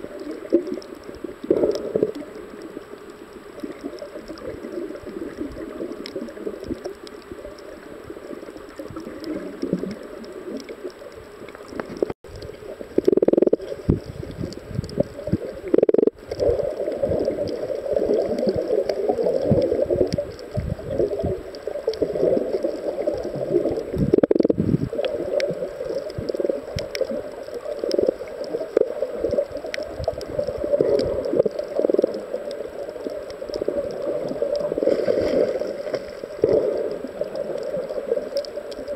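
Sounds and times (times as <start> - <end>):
underwater gurgling water: 0.0 - 38.9.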